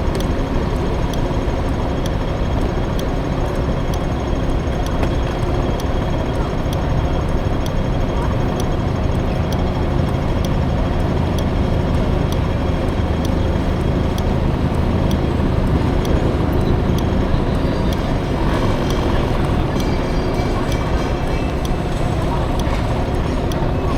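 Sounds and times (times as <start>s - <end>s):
road noise: 0.0s - 23.9s
two-stroke scooter engine running: 0.0s - 23.9s.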